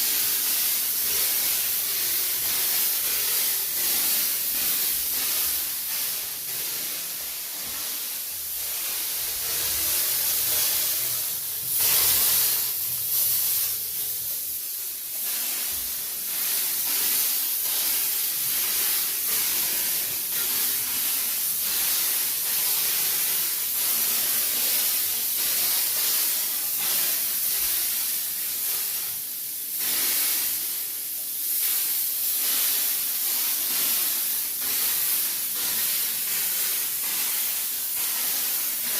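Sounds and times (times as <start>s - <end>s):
sprayer hissing: 0.0s - 38.9s.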